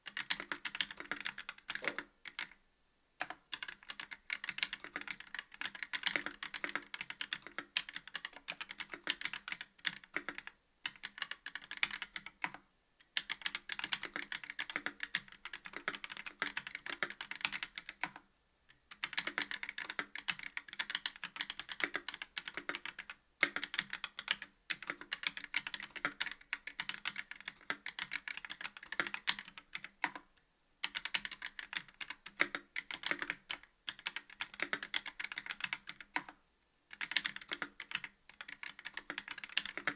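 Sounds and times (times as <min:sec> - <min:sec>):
mechanical keyboard typing: 0:00.0 - 0:02.6, 0:03.2 - 0:12.6, 0:13.2 - 0:18.2, 0:18.9 - 0:30.2, 0:30.8 - 0:39.9.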